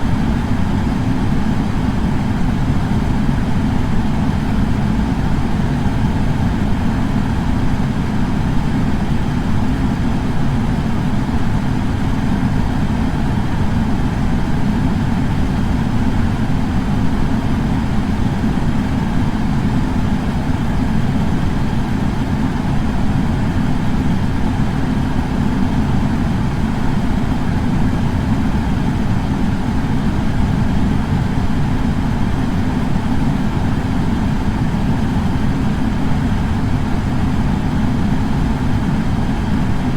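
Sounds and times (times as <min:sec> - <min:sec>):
air purifier fan running: 0:00.0 - 0:39.9.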